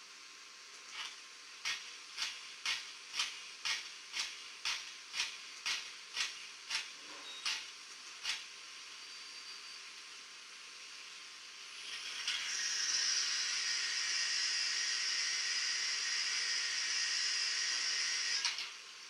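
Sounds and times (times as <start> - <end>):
model locomotive steam chuffs: 0.7 - 19.0.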